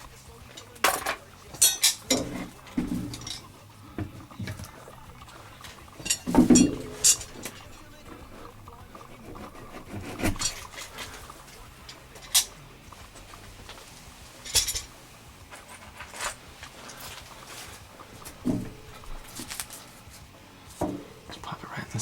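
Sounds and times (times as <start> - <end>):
heavy clunk: 0.0 - 21.5
metal shelving clinking: 0.0 - 22.0.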